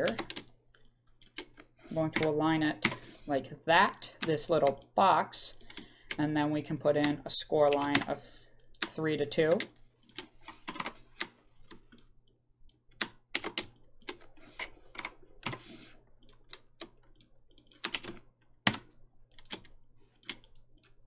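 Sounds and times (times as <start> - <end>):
computer keyboard typing: 0.0 - 3.2, 4.0 - 21.0.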